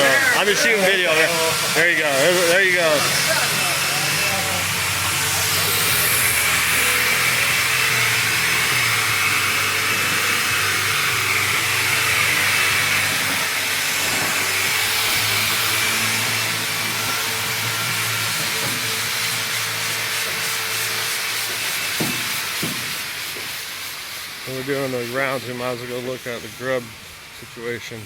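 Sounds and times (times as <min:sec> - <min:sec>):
loud hissing noise: 0:00.0 - 0:28.0.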